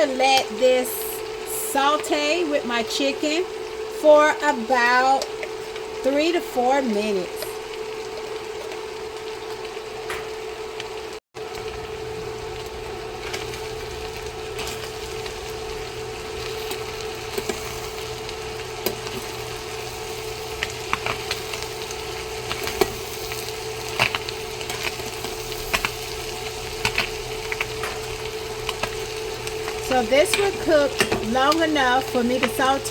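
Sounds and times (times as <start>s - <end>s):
food sizzling in a frying pan: 0.0s - 32.9s
steady hum: 0.0s - 32.9s.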